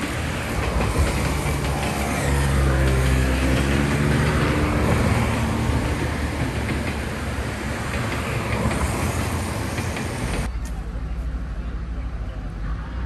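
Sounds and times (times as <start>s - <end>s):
rail joint clicks: 0.0s - 11.2s
railcar engine hum: 0.0s - 13.0s
wheels rumbling on rail: 0.0s - 13.0s.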